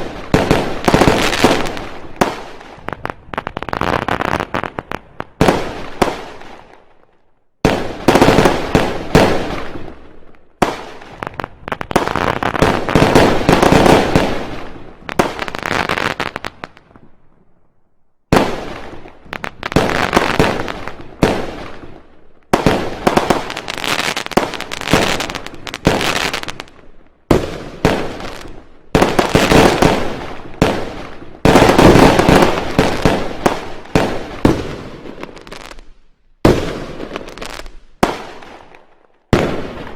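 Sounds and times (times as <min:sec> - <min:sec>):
firecracker bangs and crackling: 0:00.0 - 0:07.0, 0:07.6 - 0:17.0, 0:18.3 - 0:39.9.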